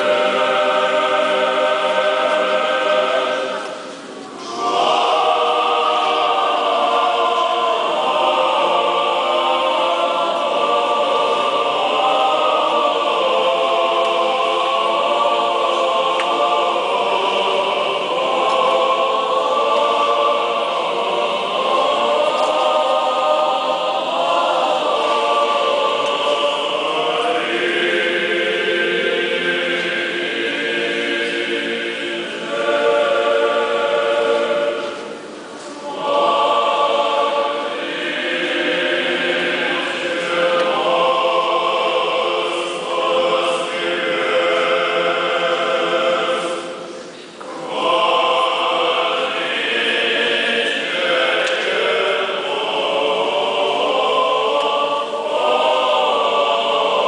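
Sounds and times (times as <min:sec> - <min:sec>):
choir singing unaccompanied chant: 0:00.0 - 0:57.0.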